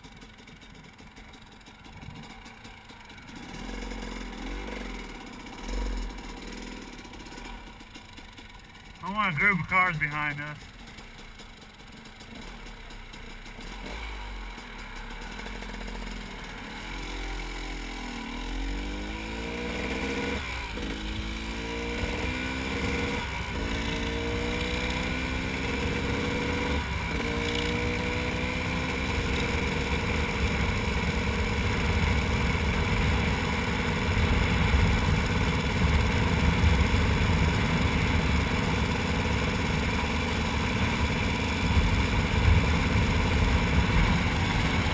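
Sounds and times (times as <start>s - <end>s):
two-stroke engine accelerating: 0.0s - 44.9s.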